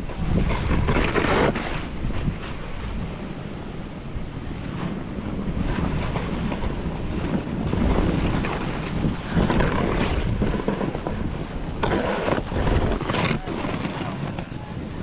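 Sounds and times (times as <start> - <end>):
snowboard scraping over snow: 0.0 - 15.0
wind buffeting microphone: 0.0 - 15.0.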